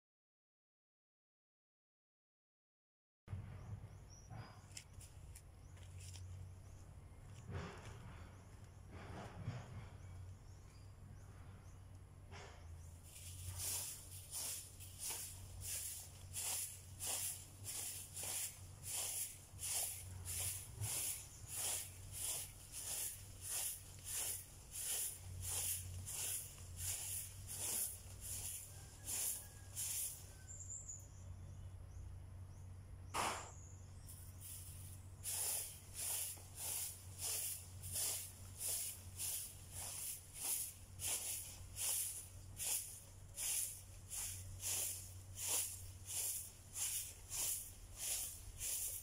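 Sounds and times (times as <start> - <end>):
broom sweeping dirt ground: 4.4 - 10.8, 12.2 - 31.0, 34.0 - 49.0.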